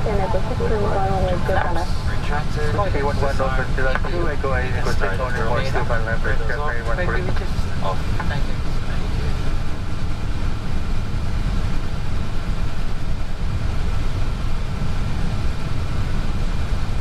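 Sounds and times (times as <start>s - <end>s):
cockpit low rumble: 0.0s - 17.0s.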